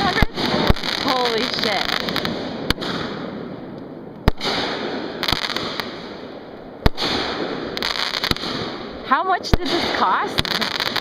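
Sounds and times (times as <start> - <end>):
firework hiss: 0.0 - 3.3, 4.3 - 9.0, 9.6 - 11.0
firework bangs: 0.0 - 11.0.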